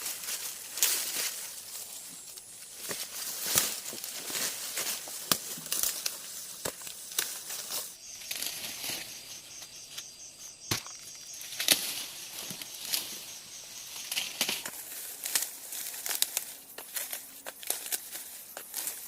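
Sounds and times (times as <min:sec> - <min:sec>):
dry plant material rustling: 0:00.0 - 0:19.0.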